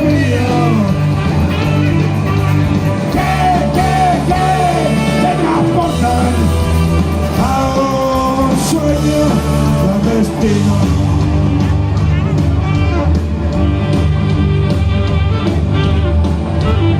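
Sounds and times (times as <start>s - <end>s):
lead guitar bending notes: 0.0s - 16.9s
rock band playing live: 0.0s - 16.9s.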